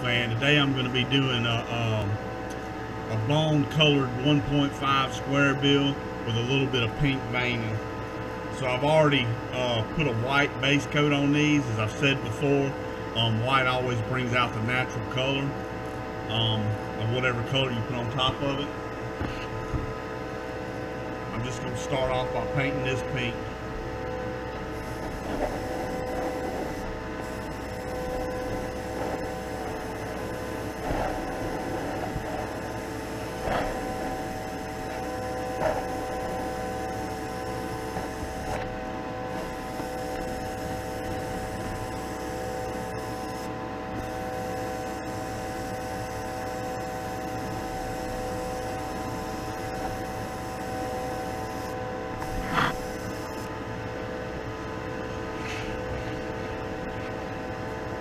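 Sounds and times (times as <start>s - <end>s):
exhaust fan humming: 0.0s - 58.0s.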